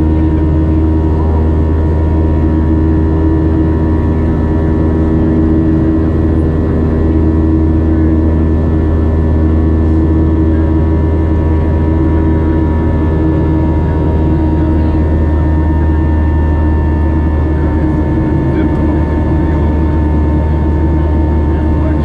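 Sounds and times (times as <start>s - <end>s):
engine whining tones: 0.0s - 22.0s
jet cabin engine rumble: 0.0s - 22.0s.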